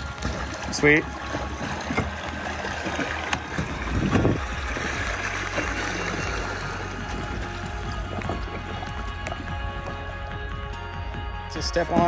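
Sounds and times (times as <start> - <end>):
low rumble: 0.0 - 11.8
water washing along a hull: 0.0 - 12.0.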